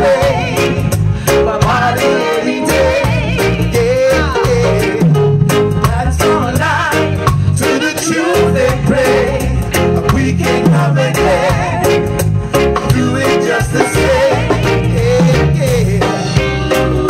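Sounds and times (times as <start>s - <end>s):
people singing together: 0.0s - 5.1s, 6.4s - 12.2s, 12.8s - 17.0s
reggae band playing: 0.0s - 17.0s.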